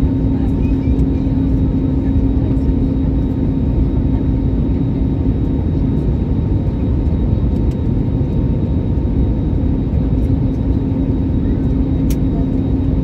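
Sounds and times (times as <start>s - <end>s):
airliner engines roaring: 0.0s - 13.0s
steady low hum: 0.0s - 13.0s.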